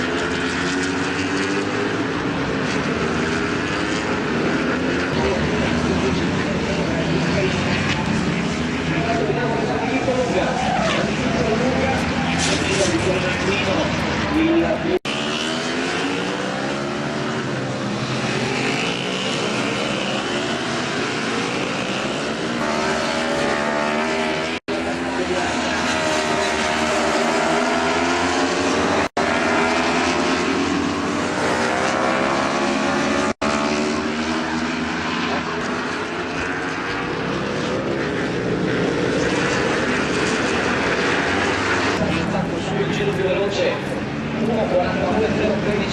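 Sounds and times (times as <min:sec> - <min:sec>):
racing motorcycle engines: 0:00.0 - 0:45.9.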